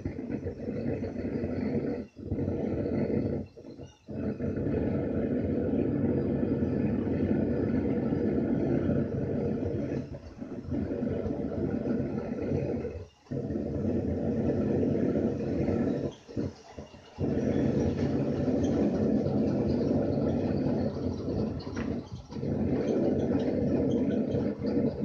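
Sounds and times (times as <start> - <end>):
gas forge burner rushing: 0.0 - 25.0.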